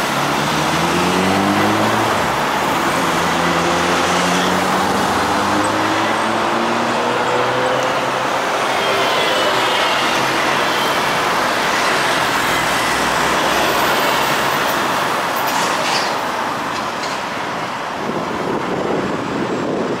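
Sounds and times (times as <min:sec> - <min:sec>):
road traffic rushing past: 0:00.0 - 0:20.0.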